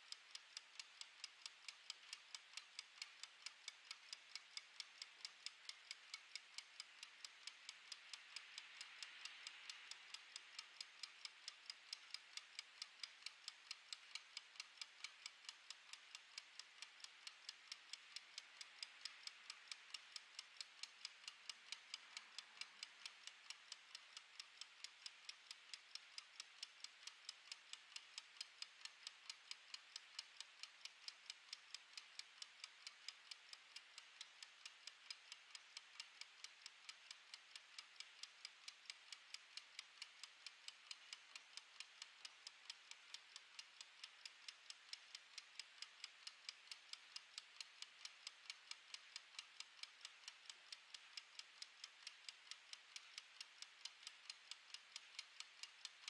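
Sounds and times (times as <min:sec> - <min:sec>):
kitchen timer ticking: 0:00.0 - 0:56.0.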